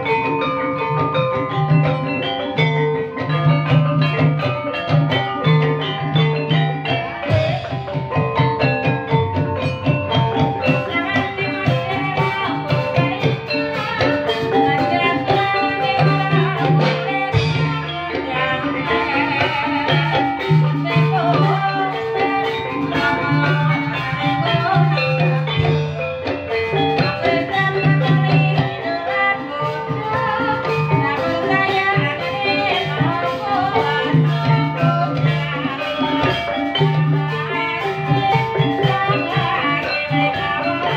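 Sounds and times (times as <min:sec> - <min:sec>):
drums: 0:00.0 - 0:40.9
metallophones playing melody: 0:00.0 - 0:40.9.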